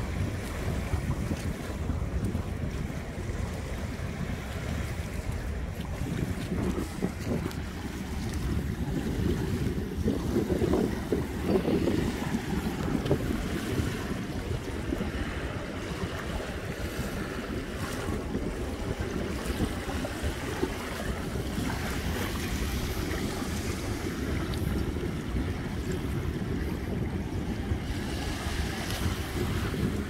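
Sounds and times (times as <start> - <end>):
small waves washing on shore: 0.0 - 30.0
wind rumbling on microphone: 0.0 - 30.0.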